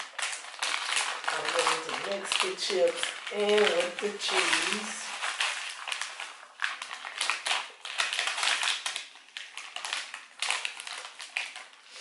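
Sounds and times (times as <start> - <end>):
chips tipping into plastic container: 0.0 - 11.8
chip bag crinkling: 0.0 - 12.0.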